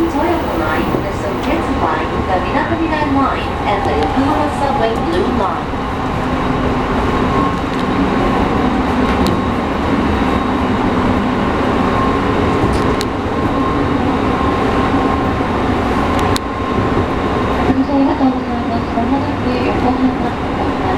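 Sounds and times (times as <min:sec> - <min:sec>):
train wheels rumbling: 0:00.0 - 0:20.9.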